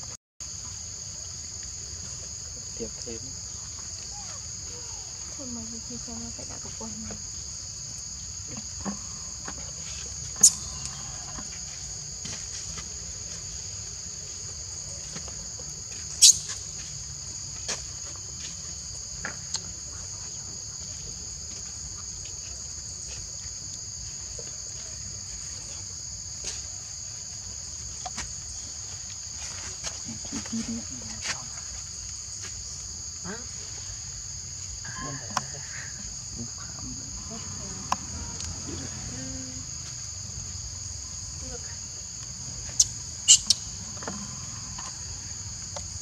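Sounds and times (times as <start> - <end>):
insect chorus drone: 0.0 - 46.0.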